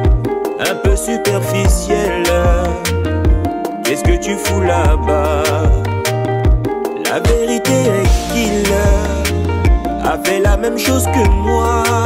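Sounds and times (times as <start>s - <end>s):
song with deep kick drums: 0.0s - 12.0s.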